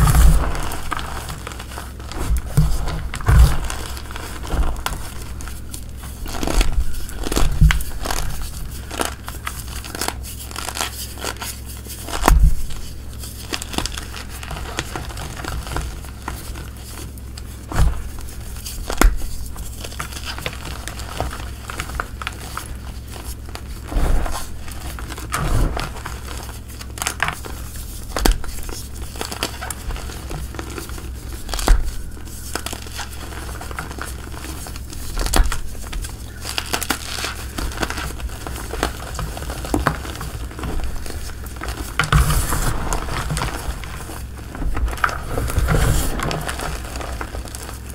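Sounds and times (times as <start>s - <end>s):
chalk crunching between hands: 0.0s - 47.9s.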